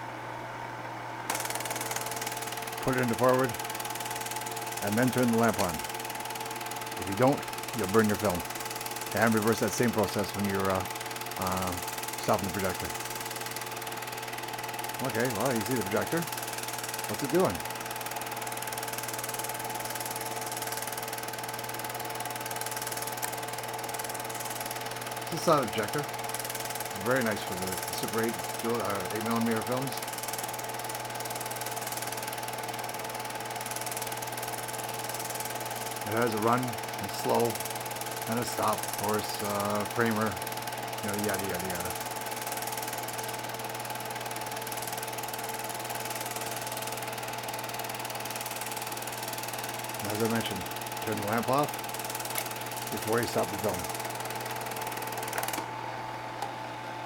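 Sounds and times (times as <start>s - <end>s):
film projector running: 1.1s - 57.0s
film-advance mechanical chatter: 1.3s - 55.6s.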